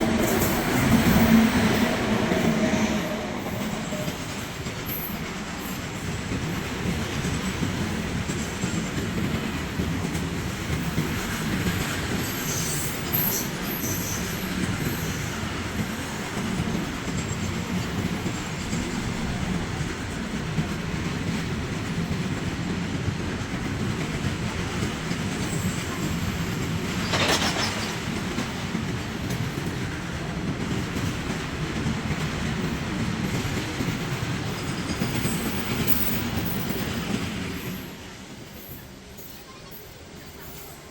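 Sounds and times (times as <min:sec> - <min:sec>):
train wheels clacking over rail joints: 0:00.0 - 0:37.4.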